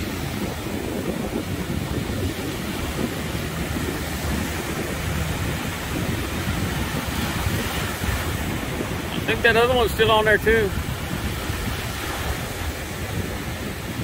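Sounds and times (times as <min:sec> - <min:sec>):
surf breaking on beach: 0:00.0 - 0:14.0
wind rumbling on microphone: 0:00.0 - 0:14.0.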